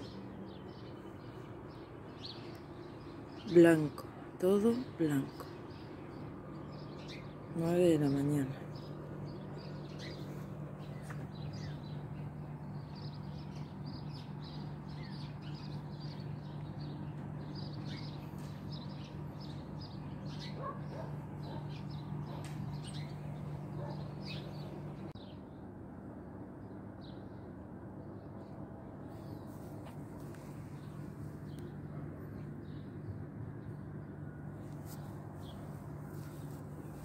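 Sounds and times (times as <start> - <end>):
small birds chirping: 0.0 - 25.6, 26.6 - 37.0
steady low hum: 0.0 - 37.0.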